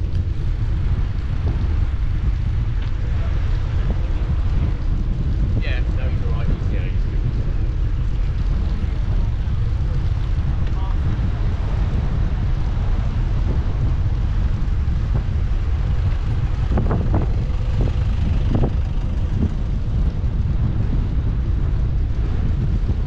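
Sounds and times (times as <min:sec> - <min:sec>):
bicycle tyre noise: 0:00.0 - 0:23.0
wind buffeting microphone: 0:00.0 - 0:23.0.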